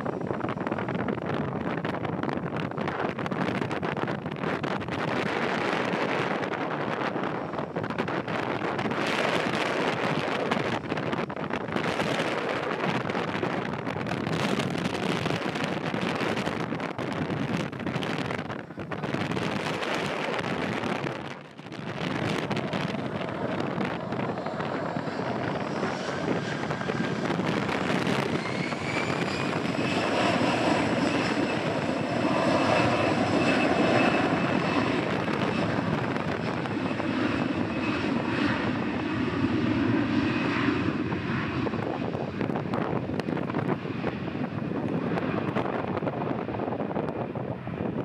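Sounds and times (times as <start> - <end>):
jet engines rumbling: 0.0 - 48.0
high engine whine: 3.7 - 48.0.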